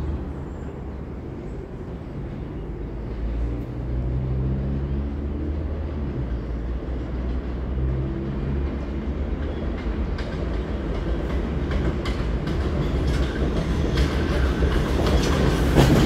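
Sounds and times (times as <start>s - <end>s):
train low rumble: 0.0s - 16.0s.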